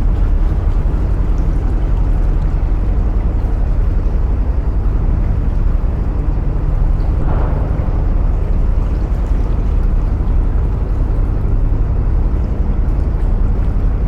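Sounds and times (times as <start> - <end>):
boat engine throbbing: 0.0 - 14.0.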